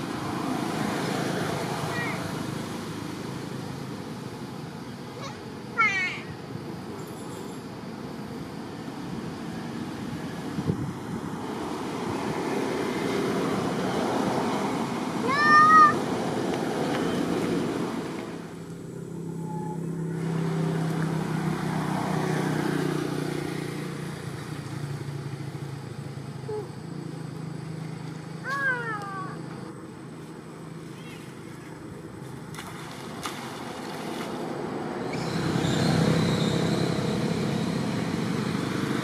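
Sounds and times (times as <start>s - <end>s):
steady background noise: 0.0s - 39.0s.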